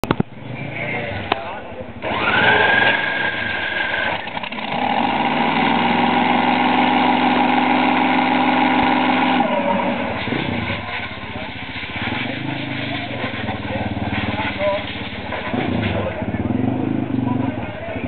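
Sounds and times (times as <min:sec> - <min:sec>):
engine starting with high whine: 0:02.0 - 0:18.0.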